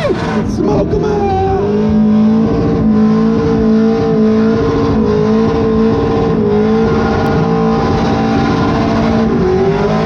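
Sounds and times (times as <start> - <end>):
car engine at high revs: 0.0 - 10.0.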